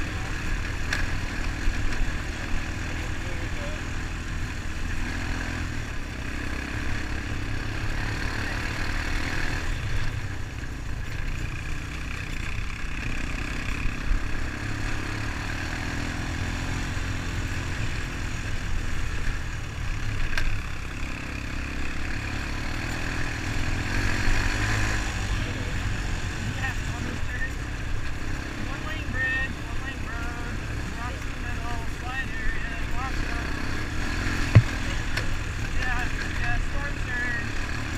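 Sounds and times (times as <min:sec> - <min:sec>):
single-cylinder engine running: 0:00.0 - 0:37.9.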